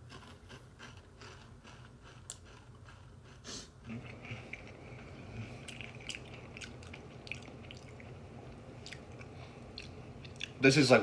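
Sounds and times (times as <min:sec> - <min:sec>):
person chewing potato crisps: 0:00.0 - 0:10.6.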